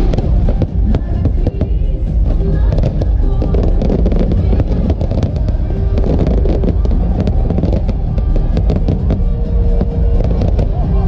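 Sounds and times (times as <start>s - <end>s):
fireworks cracks and bangs: 0.0s - 11.0s
low rumble: 0.0s - 11.0s
music playing: 0.0s - 11.0s.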